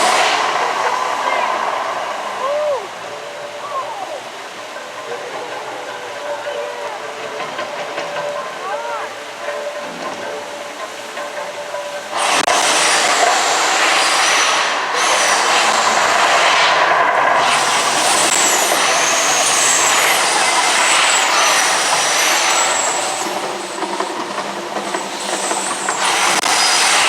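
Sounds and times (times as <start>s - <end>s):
roaring rush with hiss: 0.0s - 27.0s.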